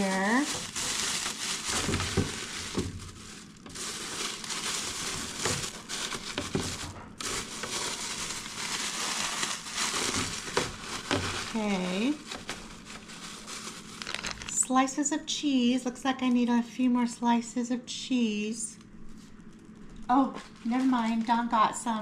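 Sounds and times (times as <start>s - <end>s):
plastic packaging crinkling: 0.0s - 14.8s, 19.0s - 22.0s.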